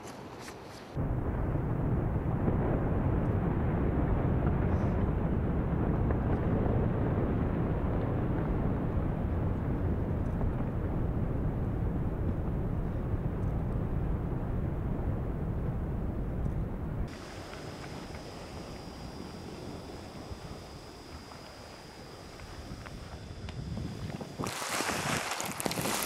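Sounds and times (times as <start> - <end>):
avalanche low rumble: 1.0 - 26.0.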